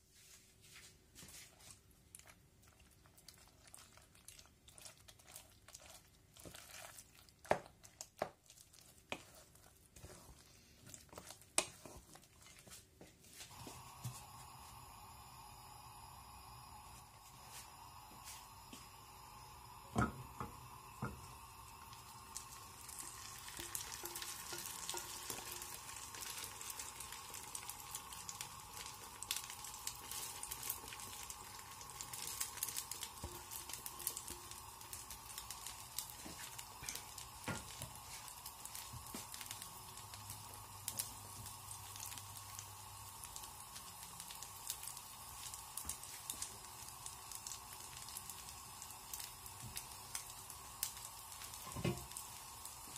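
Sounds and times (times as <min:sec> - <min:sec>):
batter sizzling in hot oil: 0:00.0 - 0:52.9.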